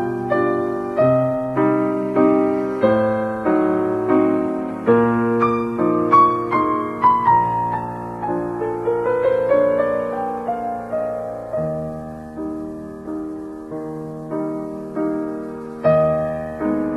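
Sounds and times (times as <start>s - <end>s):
gentle piano music: 0.0s - 16.9s.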